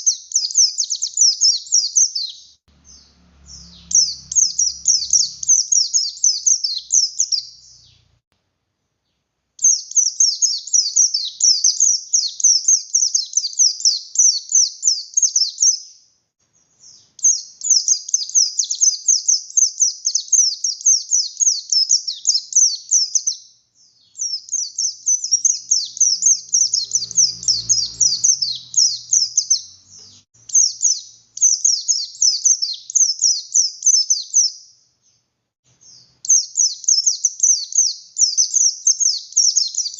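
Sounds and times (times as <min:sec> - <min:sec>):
bird singing high chirped notes: 0:00.0 - 0:08.1, 0:09.6 - 0:16.0, 0:16.6 - 0:34.7, 0:35.8 - 0:39.9.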